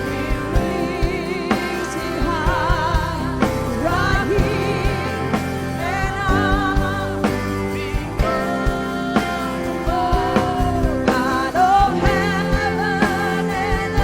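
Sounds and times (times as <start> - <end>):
live worship band playing: 0.0 - 14.0.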